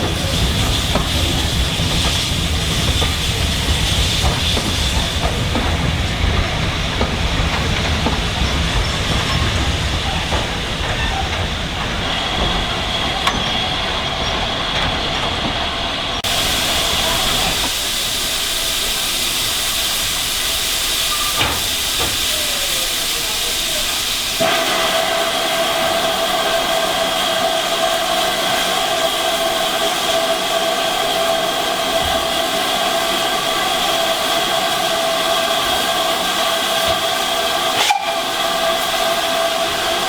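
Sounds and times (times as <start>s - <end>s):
steam hissing: 0.0s - 40.0s
steam train running noise: 0.0s - 40.0s.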